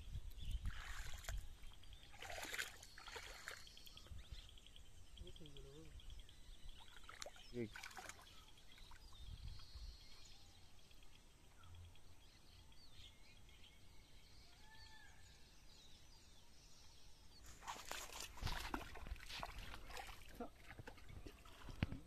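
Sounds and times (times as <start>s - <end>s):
faint bird chirps: 0.0s - 18.7s.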